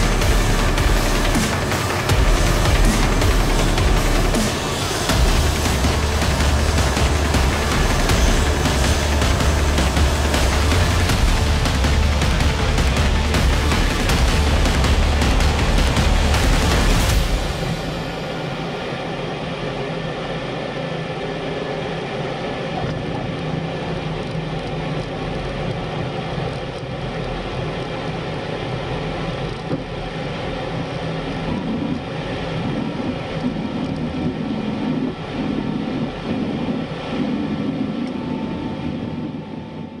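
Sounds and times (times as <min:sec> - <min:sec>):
jet engine whine: 0:00.0 - 0:40.0.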